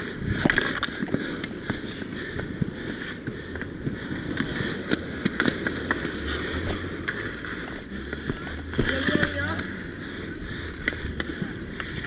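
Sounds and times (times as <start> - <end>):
skate wheels rolling: 0.0 - 12.0
hockey sticks clacking: 0.4 - 1.6, 2.5 - 9.7, 10.7 - 12.0.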